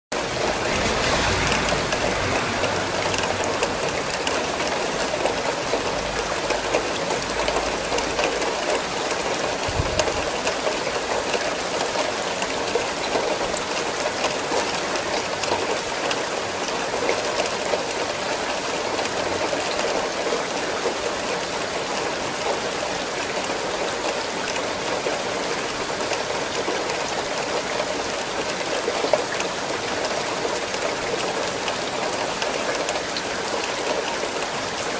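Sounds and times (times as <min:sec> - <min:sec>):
raindrops pattering: 0:00.1 - 0:34.9
steady rain hiss: 0:00.2 - 0:34.9.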